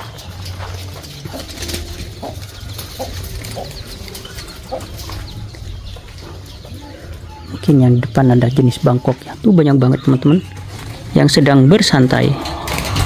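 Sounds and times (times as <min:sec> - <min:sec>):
chickens and doves calling: 0:00.0 - 0:13.0.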